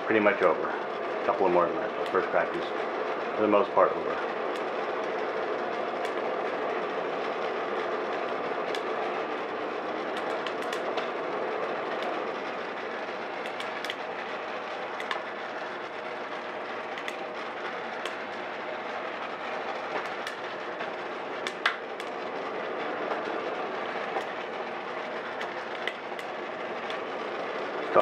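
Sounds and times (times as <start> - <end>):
oven fan whirring: 0.0 - 28.0.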